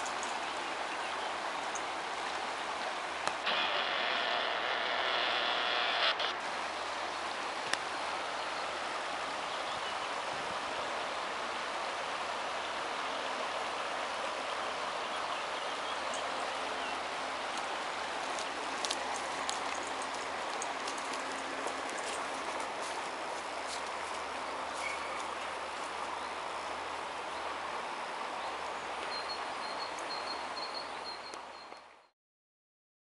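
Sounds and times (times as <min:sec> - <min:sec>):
river water rushing over riffle: 0:00.0 - 0:32.0.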